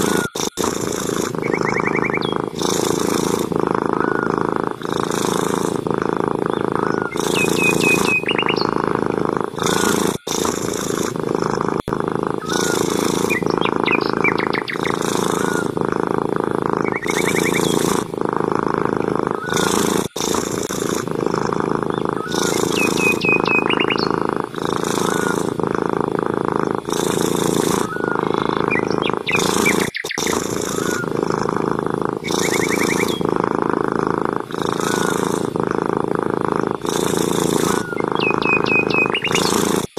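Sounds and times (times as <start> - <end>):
cat purring: 0.0 - 39.9
small birds chirping: 0.0 - 39.9.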